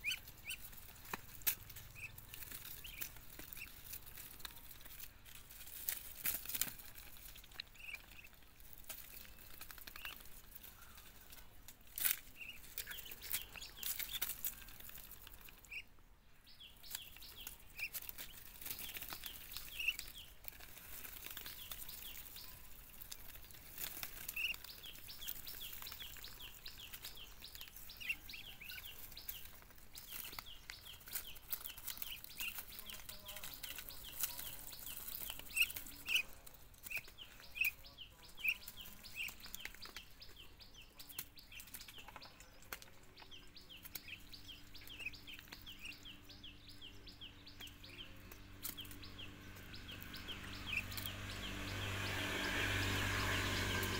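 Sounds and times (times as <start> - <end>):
leaves rustling: 0.0 - 15.9, 16.5 - 53.9.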